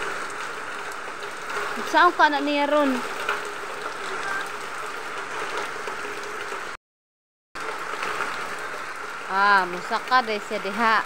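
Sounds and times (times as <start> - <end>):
steady rain falling: 0.0 - 6.8, 7.6 - 11.0.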